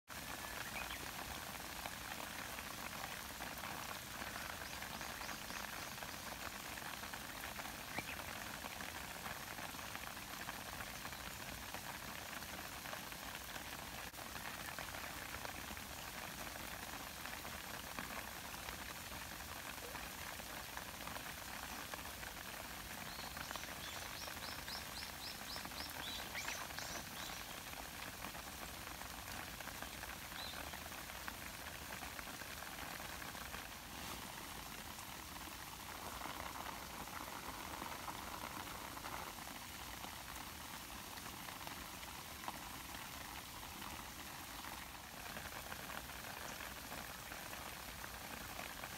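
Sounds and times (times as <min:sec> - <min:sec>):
light rain on grass: 0:00.0 - 0:48.9.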